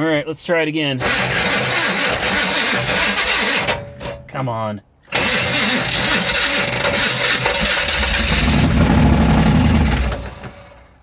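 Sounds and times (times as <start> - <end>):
car engine cranking and starting: 1.0 - 4.2, 5.1 - 11.0.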